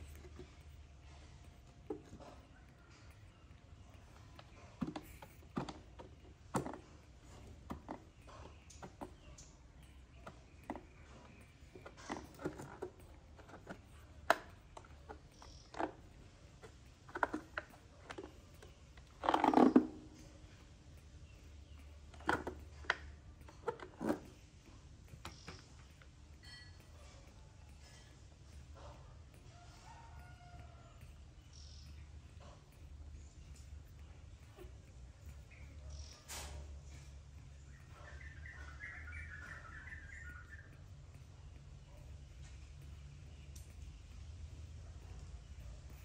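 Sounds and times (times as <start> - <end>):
baby monkey sucking at bottle: 0.0 - 46.0.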